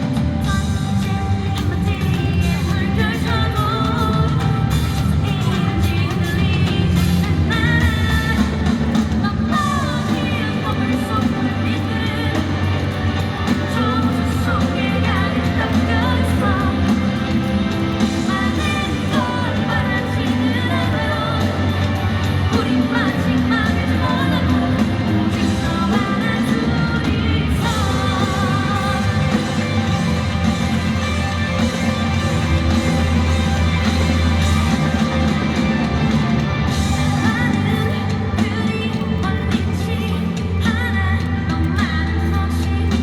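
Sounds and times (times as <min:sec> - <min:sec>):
live rock band playing: 0:00.0 - 0:42.2
lead vocalist singing: 0:00.0 - 0:43.0.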